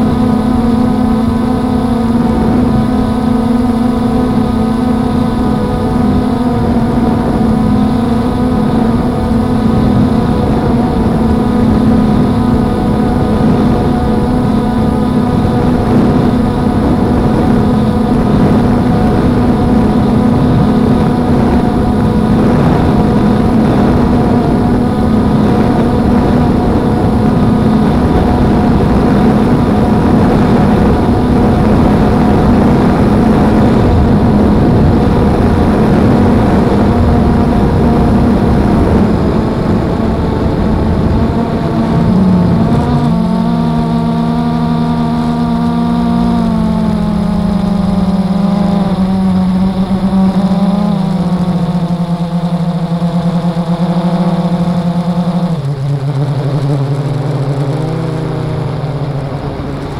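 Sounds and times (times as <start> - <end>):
quadcopter motors humming: 0.0 - 59.9.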